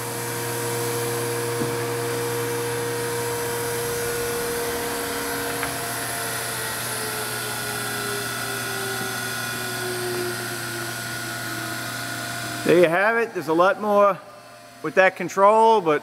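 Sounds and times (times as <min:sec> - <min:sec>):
grinder spindle whine: 0:00.0 - 0:16.0
machine hum: 0:00.0 - 0:16.0.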